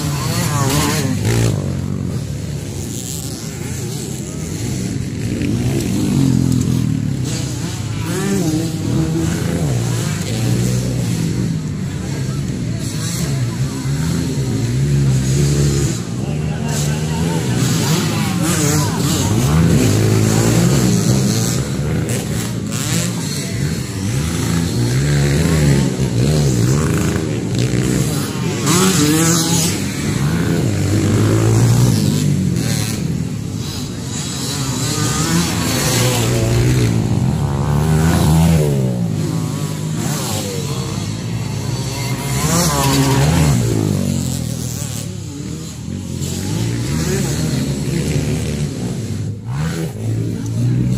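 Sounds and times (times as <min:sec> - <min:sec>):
dirt bike engines revving: 0:00.0 - 0:50.9.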